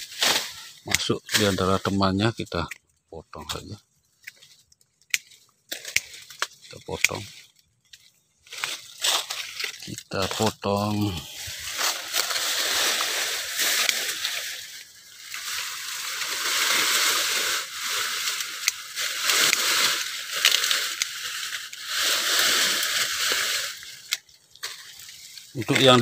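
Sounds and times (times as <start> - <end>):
leaves and bamboo litter rustling: 0.0 - 26.0
pruning shears snipping: 4.1 - 10.5, 11.1 - 26.0.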